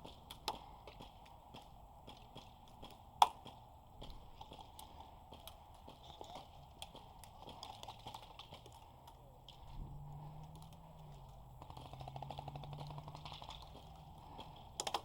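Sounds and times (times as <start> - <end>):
quiet footsteps: 0.0 - 15.0.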